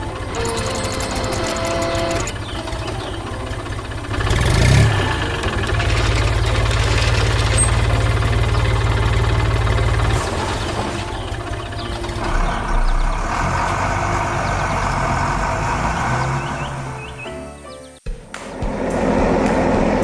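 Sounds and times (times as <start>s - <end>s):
heavy machine engine running: 0.0s - 17.3s, 18.5s - 20.0s.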